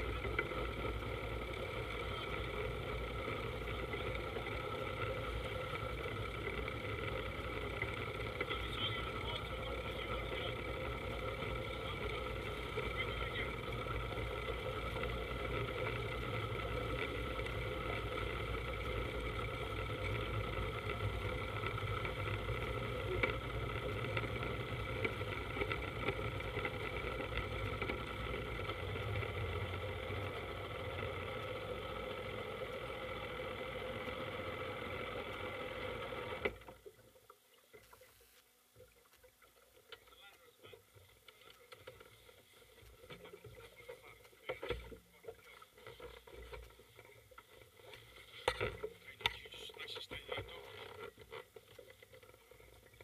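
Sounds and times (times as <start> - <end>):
powerboat engine droning: 0.0 - 37.8, 38.8 - 53.0
faint water sounds: 0.0 - 53.0.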